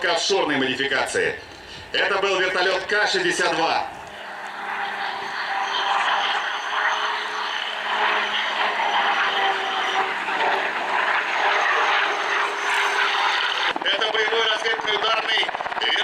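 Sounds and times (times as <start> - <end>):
helicopter turbine and rotors: 0.0 - 16.0.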